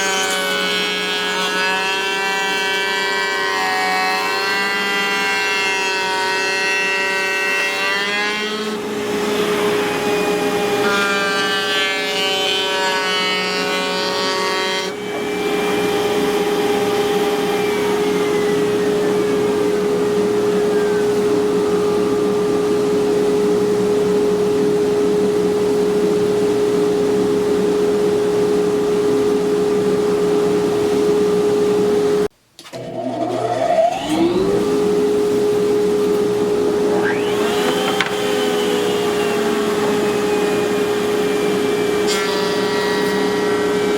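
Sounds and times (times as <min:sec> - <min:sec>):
router spindle whine cutting wood: 0:00.0 - 0:43.9.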